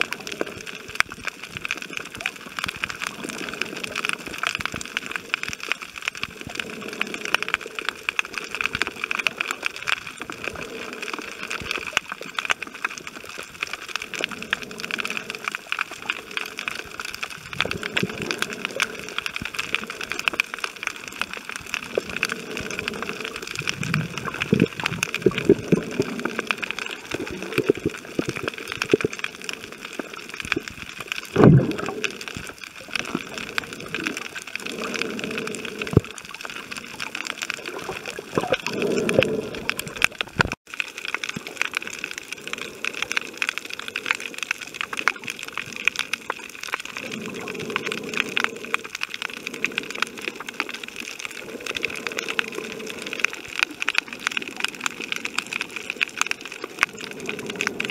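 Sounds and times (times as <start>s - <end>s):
crackle of fine clicks underwater: 0.0s - 57.9s
muffled water sloshing and gurgling: 0.0s - 57.9s.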